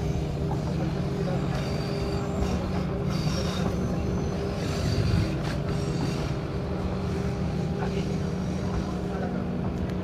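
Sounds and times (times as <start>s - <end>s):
low engine drone: 0.0s - 10.0s
wheels rumbling on rails: 0.0s - 10.0s.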